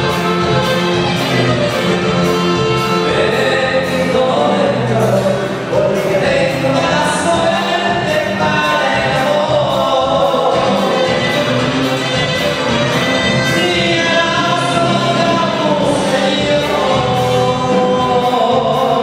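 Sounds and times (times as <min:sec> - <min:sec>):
live band music with singing: 0:00.0 - 0:19.0.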